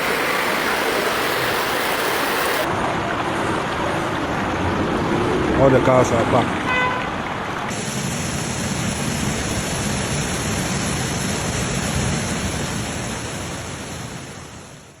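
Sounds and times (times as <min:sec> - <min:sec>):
rushing water: 0:00.0 - 0:14.5.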